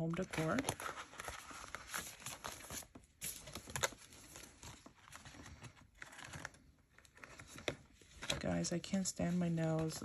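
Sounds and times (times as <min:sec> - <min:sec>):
banknotes and plastic envelopes rustling: 0:00.0 - 0:10.0.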